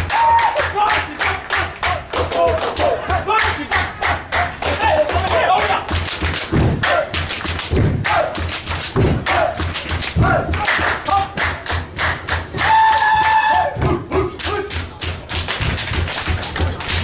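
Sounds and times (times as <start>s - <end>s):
hand percussion: 1.8s - 17.0s.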